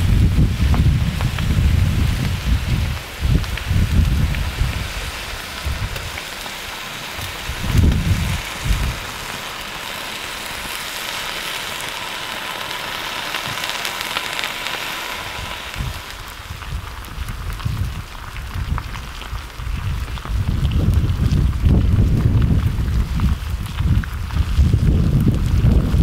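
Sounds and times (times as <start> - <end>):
wind rumbling on microphone: 0.0 - 12.8, 13.4 - 26.0
lava hissing and crackling: 0.0 - 26.0.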